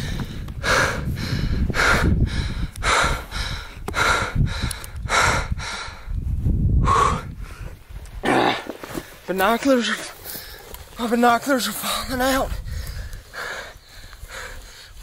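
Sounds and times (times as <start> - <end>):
man breathing hard: 0.0 - 9.3, 10.2 - 11.0, 11.8 - 15.0.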